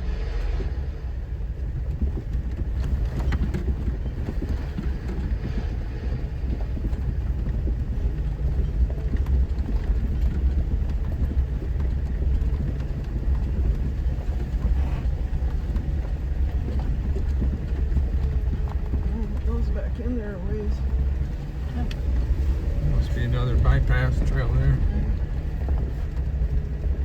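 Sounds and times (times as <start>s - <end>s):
off-road vehicle engine rumble: 0.0s - 27.0s
knocks and rattles: 1.5s - 27.0s.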